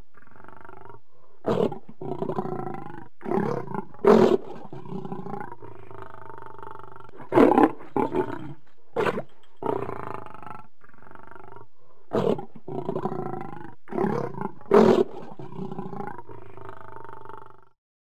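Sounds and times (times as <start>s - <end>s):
lion growling: 0.0s - 17.8s
lion roaring: 0.1s - 17.7s.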